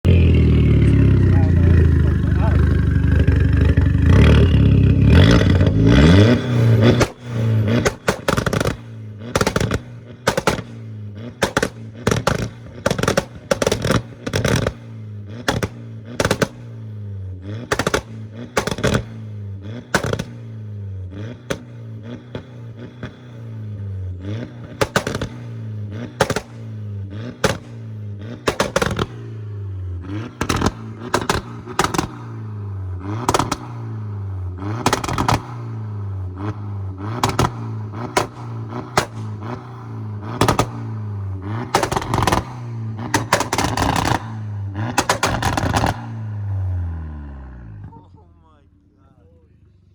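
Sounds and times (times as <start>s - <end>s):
car engine note: 0.0s - 49.9s
exhaust cracks and pops: 0.1s - 20.6s, 21.2s - 23.4s, 24.2s - 47.1s.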